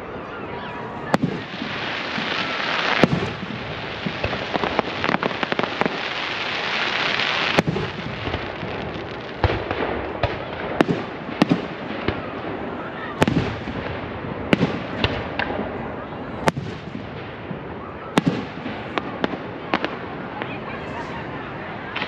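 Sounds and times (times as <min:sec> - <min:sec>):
firework crackle: 0:00.9 - 0:22.0.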